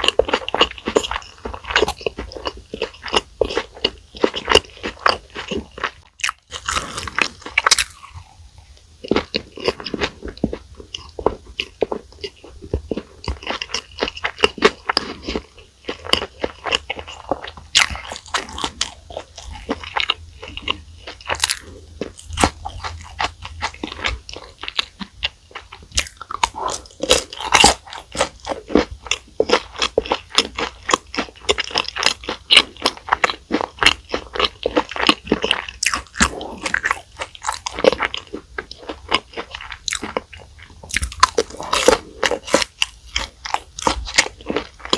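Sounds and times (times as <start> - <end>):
crisp food crunches: 0.0 - 8.4, 9.0 - 44.9
chewing food: 0.0 - 44.9.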